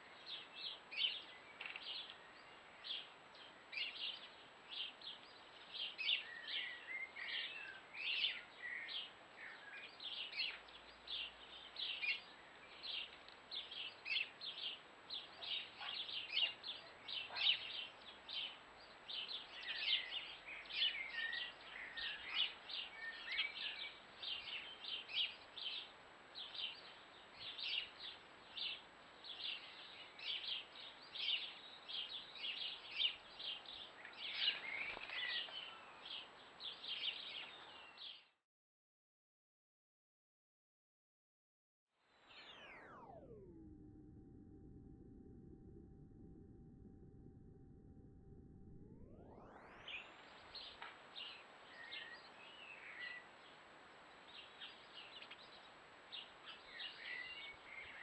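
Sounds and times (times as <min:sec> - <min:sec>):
small birds chirping: 0:00.0 - 0:38.4, 0:49.0 - 0:58.0.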